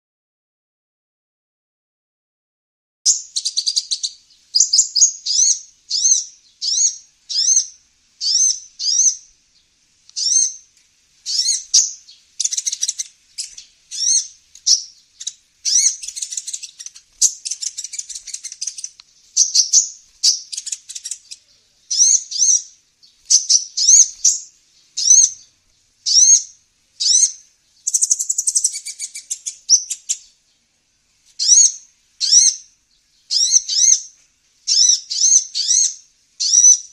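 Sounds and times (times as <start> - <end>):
bird high-pitched chirps: 3.1 - 30.5, 31.4 - 36.9.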